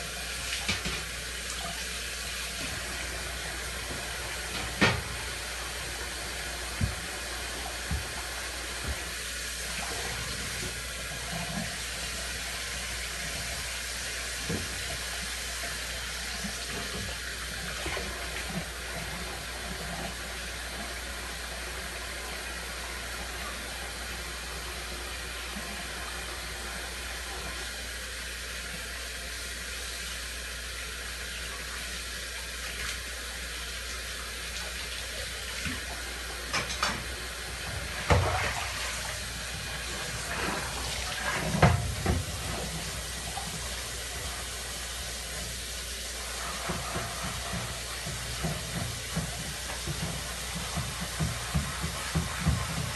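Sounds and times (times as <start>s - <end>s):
tap water running into sink: 0.0s - 52.9s.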